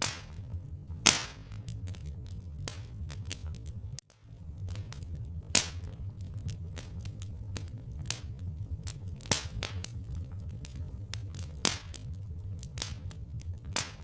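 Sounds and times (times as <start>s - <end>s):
log fire crackling and popping: 0.0s - 14.0s
low rumble: 0.0s - 14.0s.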